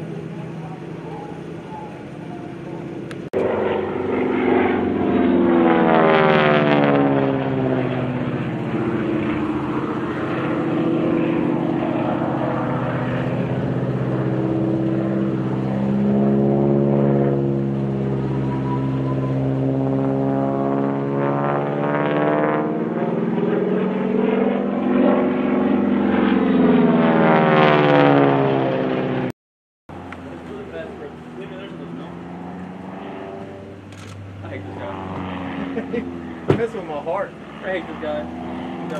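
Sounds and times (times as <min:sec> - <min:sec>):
propeller airplane engine droning: 0:00.0 - 0:38.9.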